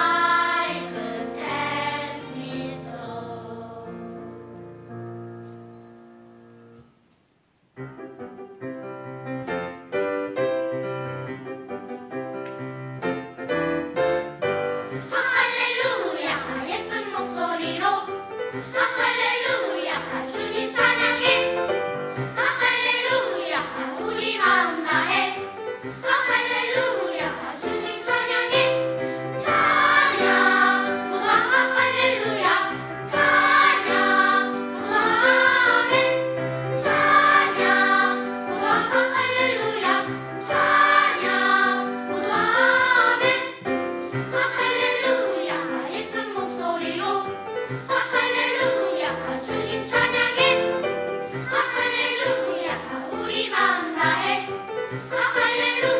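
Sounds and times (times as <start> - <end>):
church choir singing: 0.0 - 4.6, 14.9 - 55.9.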